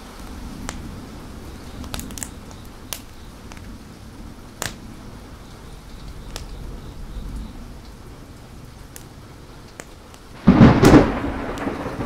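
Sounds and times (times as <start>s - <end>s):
fire crackling and popping: 0.0s - 12.0s
rain hissing: 0.0s - 12.0s.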